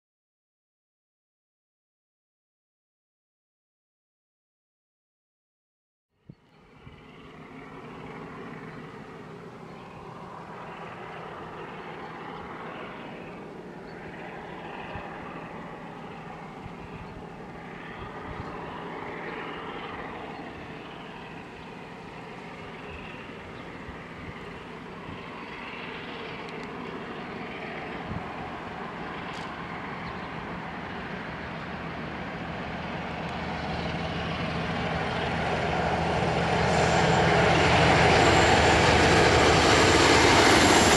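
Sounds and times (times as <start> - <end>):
diesel locomotive engine drone: 6.2 - 40.9.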